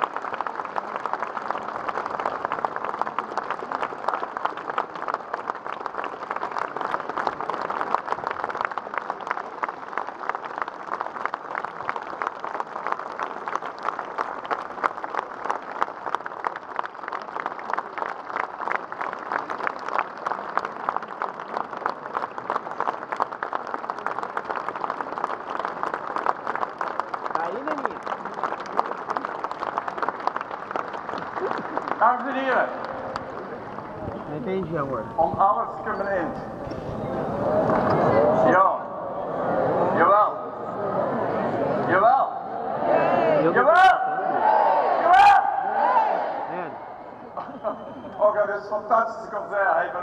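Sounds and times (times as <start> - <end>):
crowd applauding: 0.0 - 50.0.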